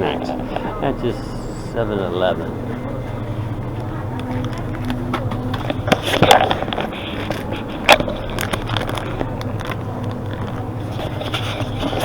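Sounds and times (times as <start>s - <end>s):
store background hum and murmur: 0.0s - 12.0s.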